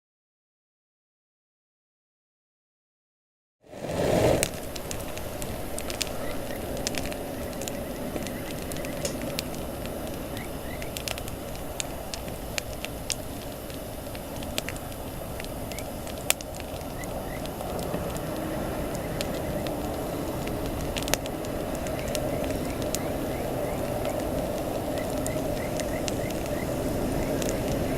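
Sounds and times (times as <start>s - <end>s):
rushing flame noise: 3.6s - 27.9s
campfire crackling and popping: 3.7s - 27.9s.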